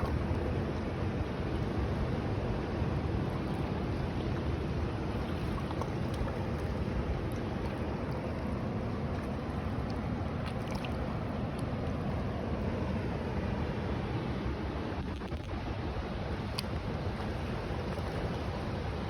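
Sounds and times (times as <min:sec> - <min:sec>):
ocean surf washing on beach: 0:00.0 - 0:19.0.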